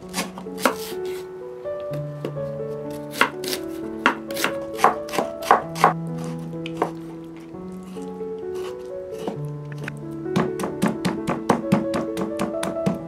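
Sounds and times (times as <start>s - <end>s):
background music sustained notes: 0.0s - 13.0s.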